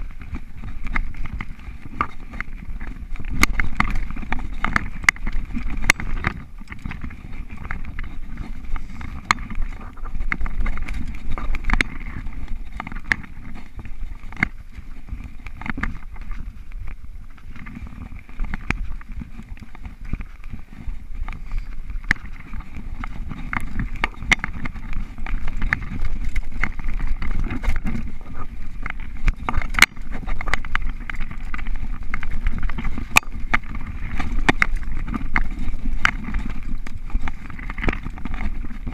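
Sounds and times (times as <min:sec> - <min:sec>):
bike rattling over bumps: 0:00.0 - 0:38.9
rumble of tyres and wind: 0:00.0 - 0:38.9.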